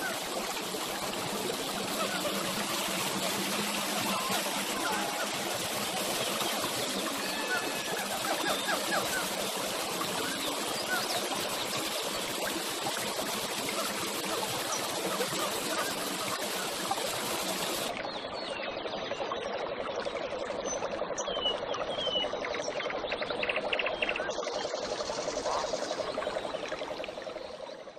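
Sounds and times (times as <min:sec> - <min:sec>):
water gushing from a spout: 0:00.0 - 0:27.9.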